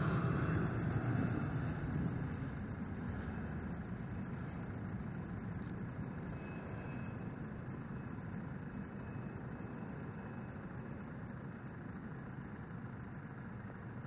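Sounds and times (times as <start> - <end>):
distant jet engine rumble: 0.0 - 14.0.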